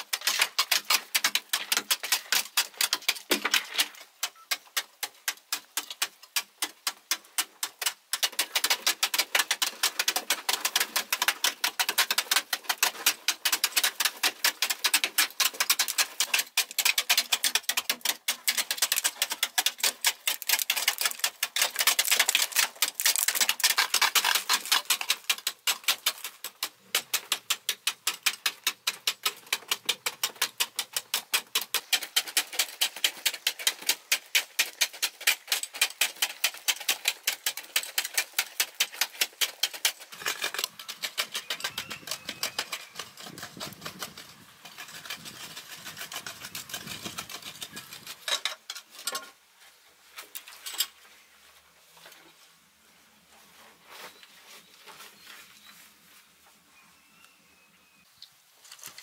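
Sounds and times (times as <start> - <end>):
hoes striking clay wall: 0.0 - 48.3
scraping and scooping loose soil: 0.0 - 57.4, 58.2 - 59.0.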